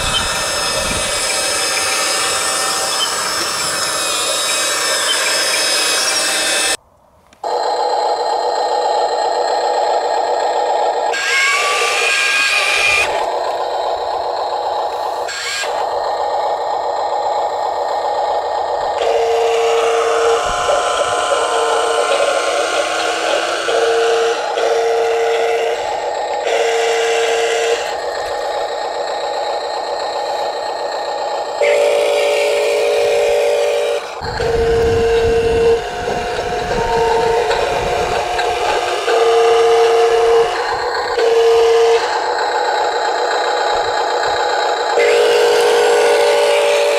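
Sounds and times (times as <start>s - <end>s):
electric motor whine and rattling: 0.0s - 6.8s, 7.4s - 46.9s.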